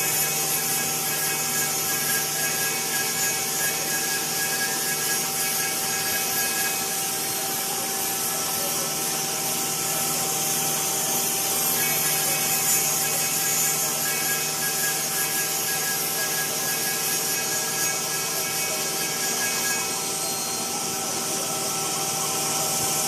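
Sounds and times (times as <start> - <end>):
cutter working wood: 0.0 - 23.0
wood router spindle whine: 0.0 - 23.0.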